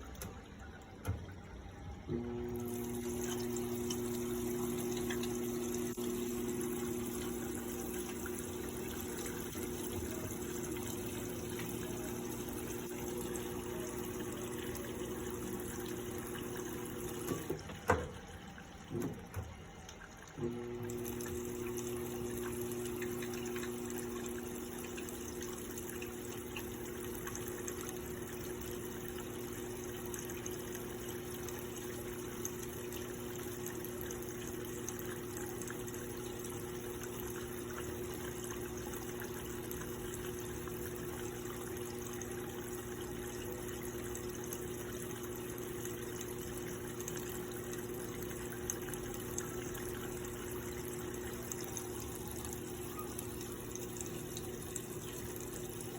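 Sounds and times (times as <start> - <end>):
inlet valve low hum: 0.0 - 55.9
water pouring into washing machine: 0.0 - 55.9.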